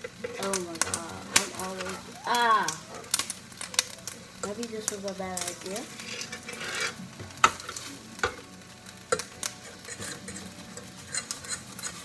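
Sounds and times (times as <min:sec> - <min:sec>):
eggs sizzling in a frying pan: 0:00.0 - 0:12.0
utensil clicking against pan: 0:00.0 - 0:12.0.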